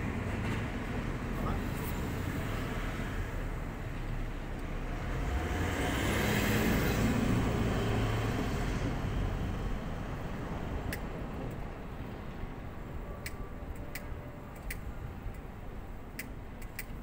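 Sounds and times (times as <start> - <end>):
vehicle engine rumble passing: 0.0 - 17.0.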